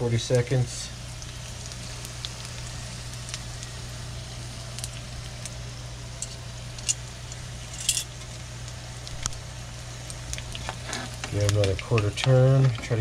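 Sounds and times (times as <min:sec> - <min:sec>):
food sizzling in hot oil: 0:00.0 - 0:13.0
low steady hum: 0:00.0 - 0:13.0
oil popping and crackling: 0:00.5 - 0:13.0.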